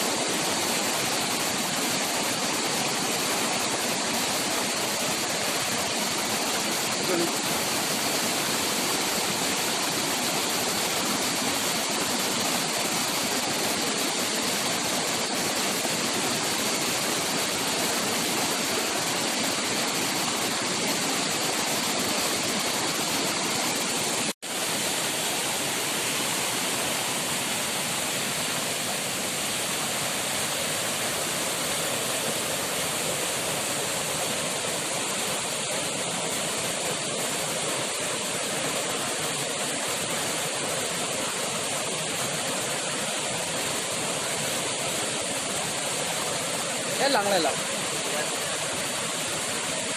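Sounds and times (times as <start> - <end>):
flowing water rushing: 0.0 - 49.9.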